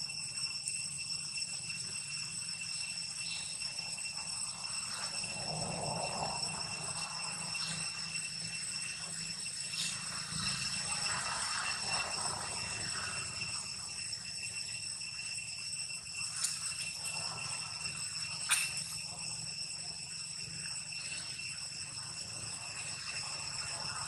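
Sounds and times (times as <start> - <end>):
high-pitched ringing drone: 0.0 - 24.0.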